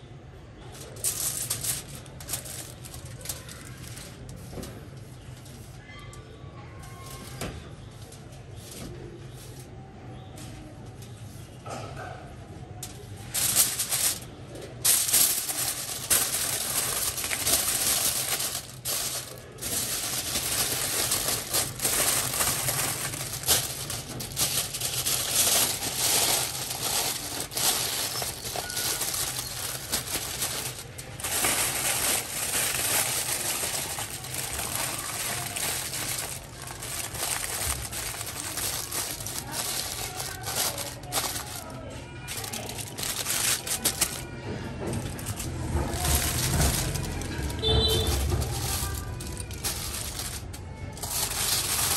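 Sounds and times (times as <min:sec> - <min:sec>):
aluminium foil crinkling: 0:00.0 - 0:09.9, 0:12.7 - 0:51.9.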